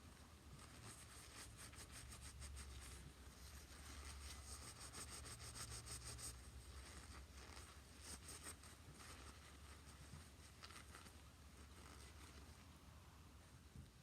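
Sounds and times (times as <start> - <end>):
cloth rubbing metal: 0.0 - 12.6.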